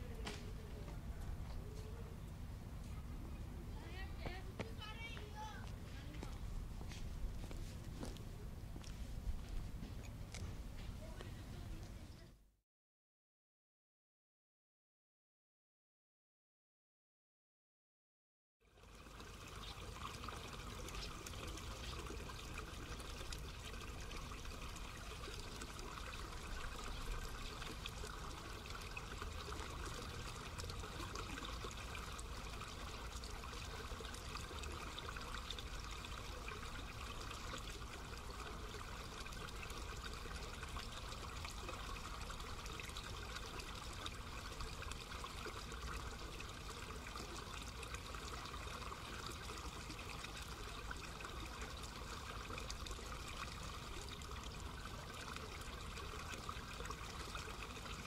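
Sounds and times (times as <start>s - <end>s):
water running in channel: 0.0s - 12.1s, 18.6s - 58.0s.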